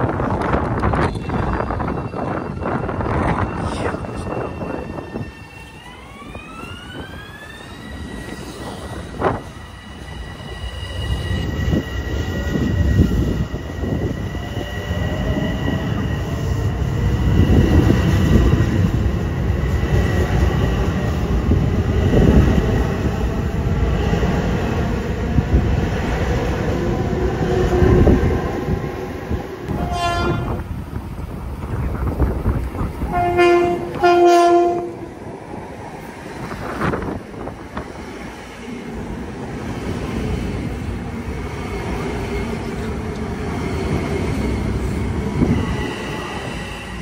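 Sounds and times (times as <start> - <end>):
train high whine: 0.0 - 47.0
train wheel rumble and clatter: 0.0 - 47.0.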